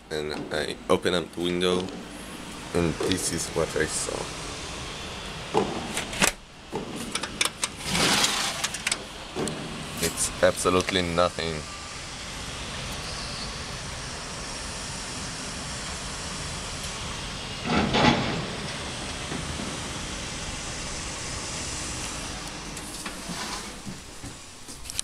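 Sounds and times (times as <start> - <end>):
distant city traffic: 0.0 - 25.0.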